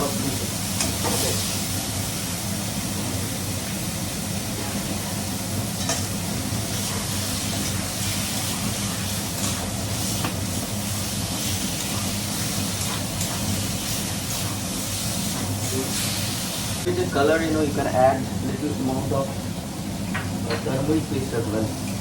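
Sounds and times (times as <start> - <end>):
fish sizzling in oil: 0.0 - 18.2.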